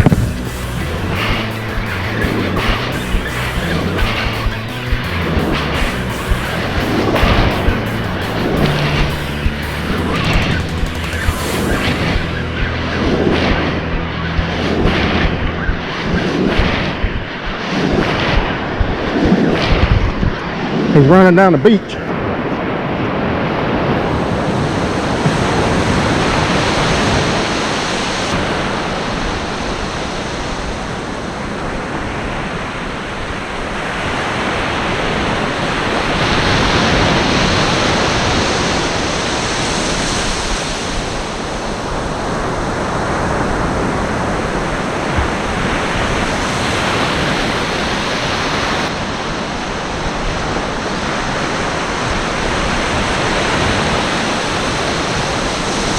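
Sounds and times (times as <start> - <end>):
ocean surf washing onto beach: 6.5 - 55.9.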